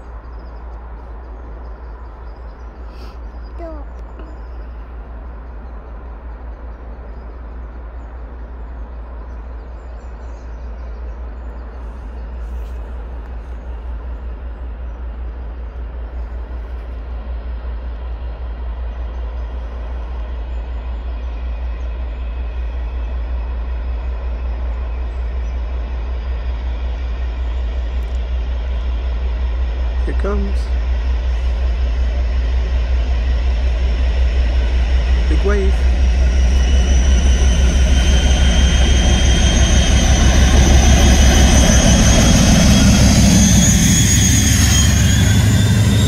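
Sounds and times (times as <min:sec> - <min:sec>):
diesel locomotive engine rumble: 0:00.0 - 0:46.0.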